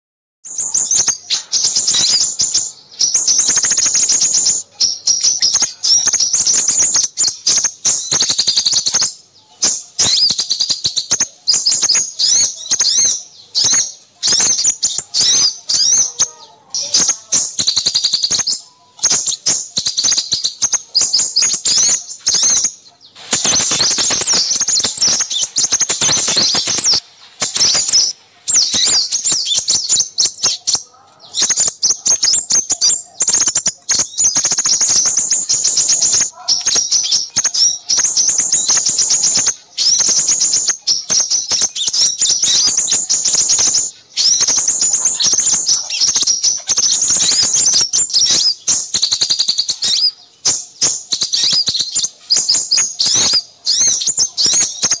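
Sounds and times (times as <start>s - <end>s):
small songbirds chirping and trilling: 0.4s - 55.0s.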